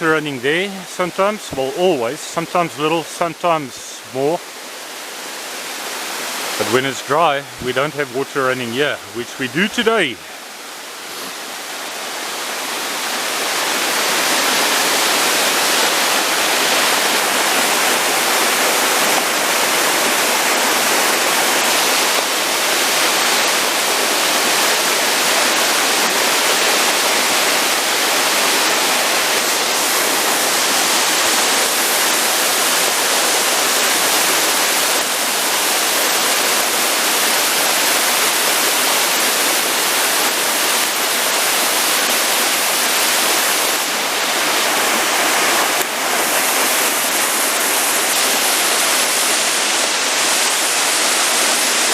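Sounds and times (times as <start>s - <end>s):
stream water rushing: 0.0s - 51.9s.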